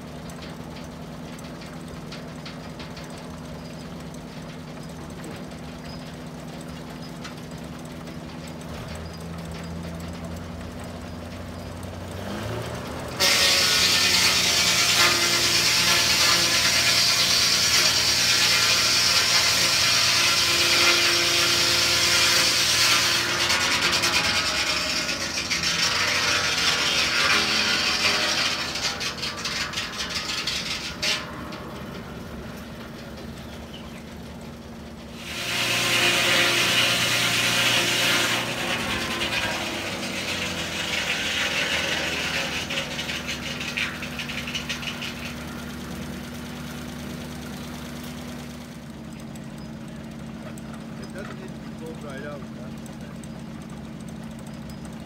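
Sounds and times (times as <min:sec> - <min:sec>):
engine running steadily: 0:00.0 - 0:20.5, 0:21.1 - 0:55.0
circular saw cutting log: 0:00.0 - 0:55.0.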